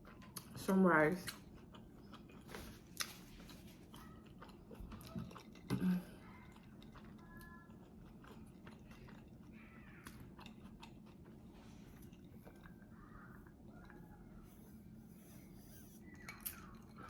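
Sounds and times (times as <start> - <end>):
person chewing food: 0.0 - 0.6, 1.2 - 17.0.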